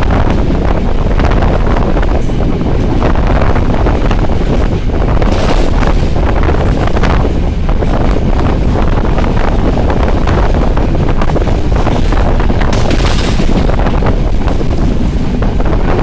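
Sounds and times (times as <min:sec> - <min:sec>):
train rumbling on track: 0:00.0 - 0:16.0
wind buffeting microphone: 0:00.0 - 0:16.0.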